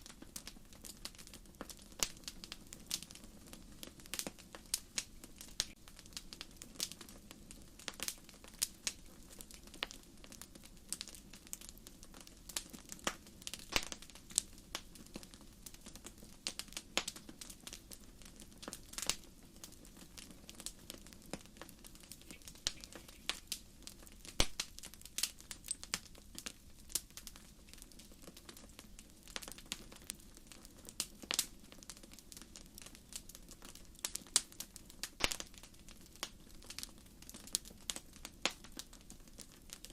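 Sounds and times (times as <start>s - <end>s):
low rush of flames: 0.0s - 39.8s
firewood popping and snapping: 0.2s - 30.2s, 31.0s - 39.9s.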